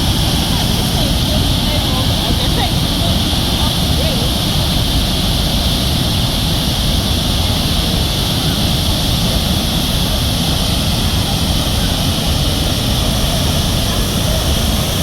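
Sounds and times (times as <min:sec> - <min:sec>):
deep rumble of water: 0:00.0 - 0:15.0
waterfall rushing: 0:00.0 - 0:15.0.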